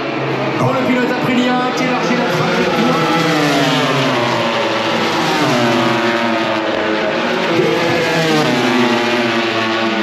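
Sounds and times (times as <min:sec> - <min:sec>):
race motorcycles at high revs: 0:00.0 - 0:10.0.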